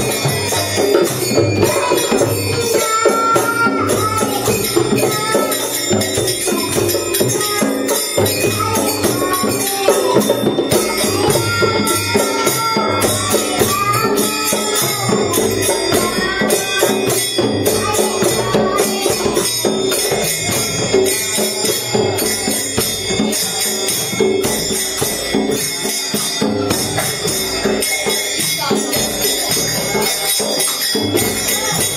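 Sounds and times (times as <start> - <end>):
boy singing a chant: 0.0 - 31.9
hand drums: 0.0 - 31.9
jingling hand cymbals: 0.0 - 31.9.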